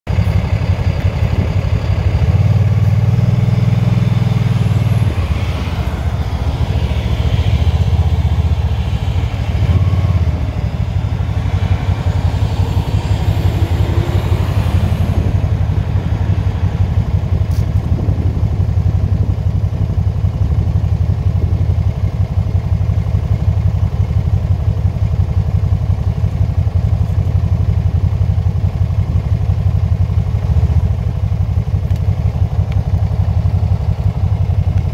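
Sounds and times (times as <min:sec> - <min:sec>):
motorcycle engine rumble: 0:00.1 - 0:34.9.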